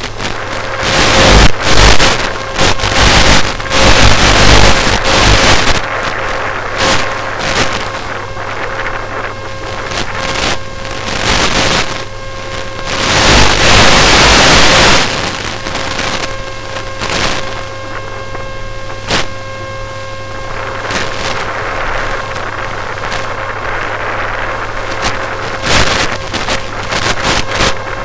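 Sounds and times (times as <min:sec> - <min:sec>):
wind rushing over microphone: 0:00.0 - 0:19.4, 0:20.2 - 0:28.0
motor and propeller hum: 0:00.0 - 0:28.0.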